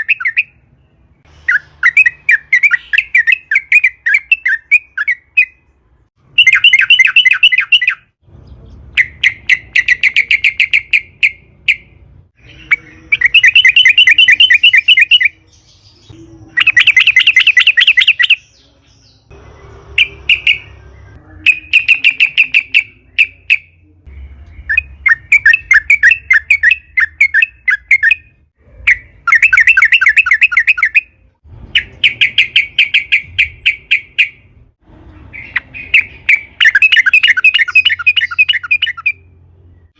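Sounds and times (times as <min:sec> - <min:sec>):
bird singing bubbling phrases: 0:00.0 - 0:05.8, 0:06.4 - 0:34.4, 0:35.3 - 0:39.9.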